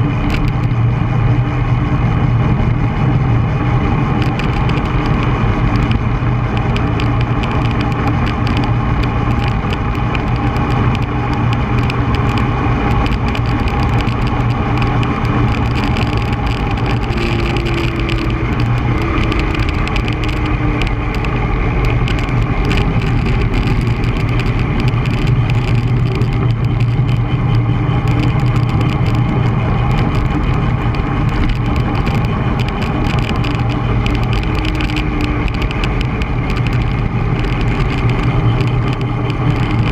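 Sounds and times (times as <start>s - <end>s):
bike tyres rumbling on asphalt: 0.0s - 39.9s
wind rush on microphone: 0.0s - 39.9s.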